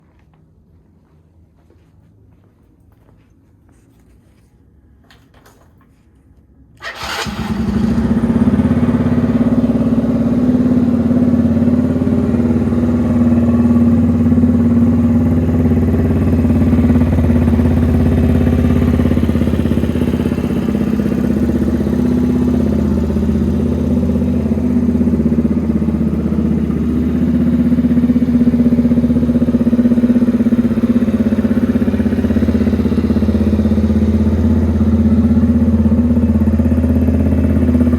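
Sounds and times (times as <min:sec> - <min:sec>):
motorcycle engine starting and idling: 0:06.7 - 0:37.9.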